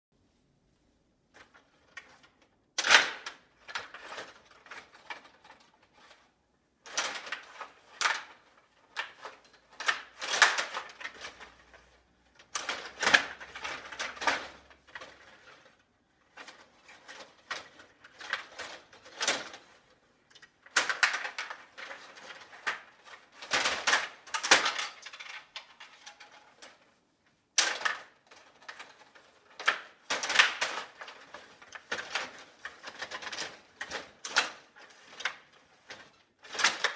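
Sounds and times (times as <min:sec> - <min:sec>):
table hockey rods clattering: 0:01.3 - 0:27.0, 0:27.6 - 0:36.9.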